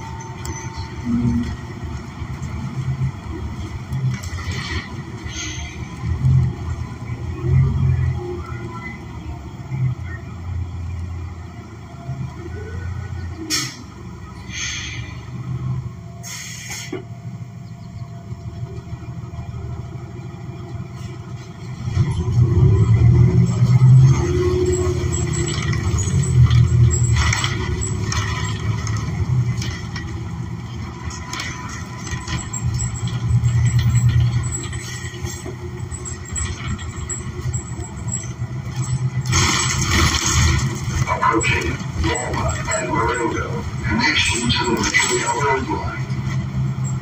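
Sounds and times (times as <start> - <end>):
bus engine accelerating: 0.0 - 47.0
road rumble: 0.0 - 47.0.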